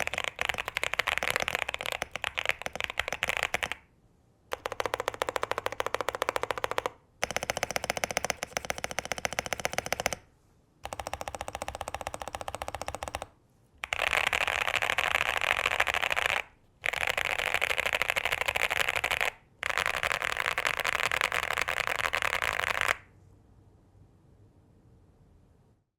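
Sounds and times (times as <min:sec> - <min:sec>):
mechanical keyboard typing: 0:00.0 - 0:03.9, 0:04.5 - 0:23.1.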